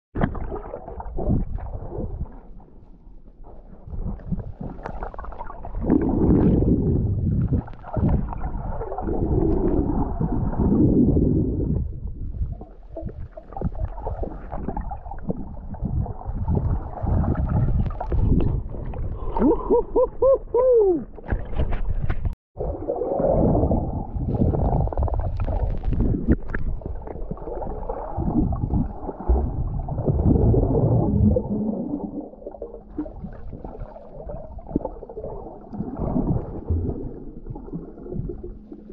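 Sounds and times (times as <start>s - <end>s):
underwater water rushing: 0.2s - 20.3s, 21.0s - 38.9s.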